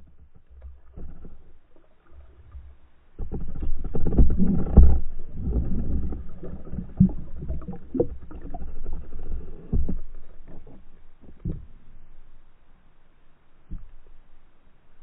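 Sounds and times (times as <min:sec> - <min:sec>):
muffled underwater rumbling: 0:00.0 - 0:15.0.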